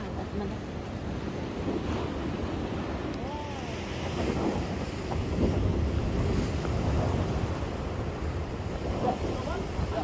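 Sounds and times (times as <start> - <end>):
sea waves washing against breakwater: 0.0 - 10.0
wind buffeting microphone: 0.0 - 10.0.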